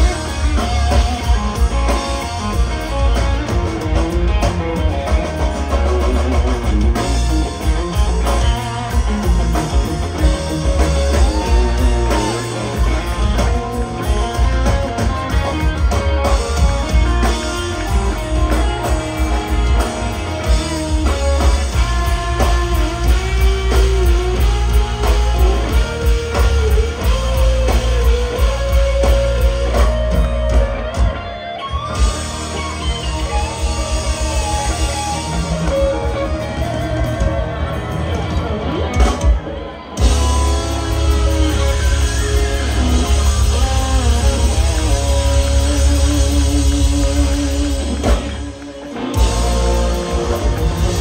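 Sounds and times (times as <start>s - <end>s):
country band playing: 0.0s - 51.0s
sliding guitar lead line: 0.0s - 51.0s.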